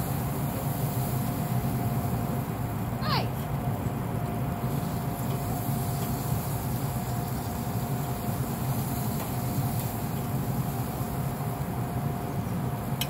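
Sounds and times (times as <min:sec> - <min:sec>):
grill fan humming with whine: 0:00.0 - 0:13.0.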